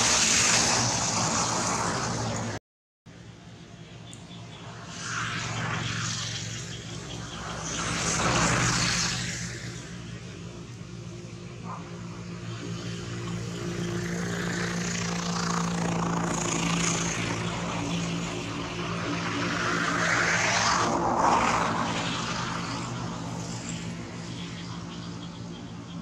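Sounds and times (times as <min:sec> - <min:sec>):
distant engine droning: 0:00.0 - 0:26.0.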